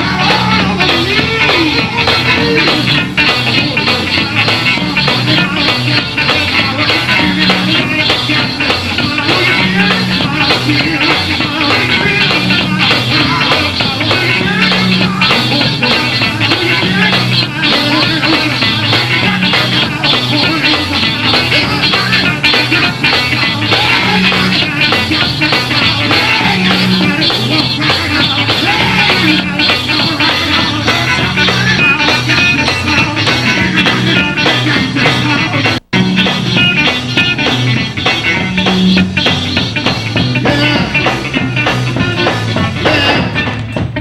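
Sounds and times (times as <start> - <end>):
repeating low bass line: 0.0 - 43.3
gospel band playing: 0.0 - 44.0.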